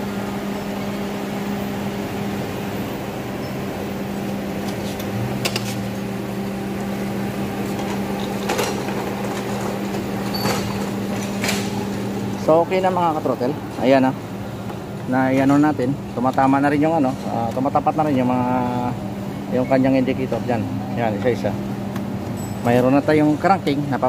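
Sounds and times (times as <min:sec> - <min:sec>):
low engine tone: 0:00.0 - 0:24.0.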